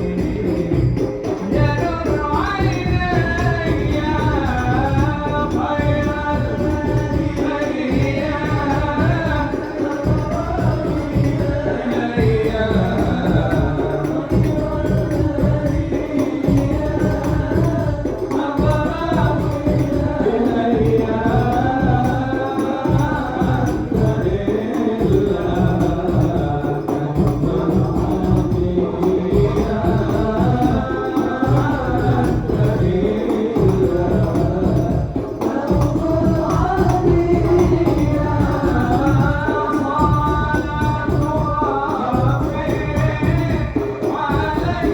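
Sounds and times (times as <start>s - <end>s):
hand frame drums beat: 0.0s - 44.9s
man singing devotional song: 0.0s - 44.9s.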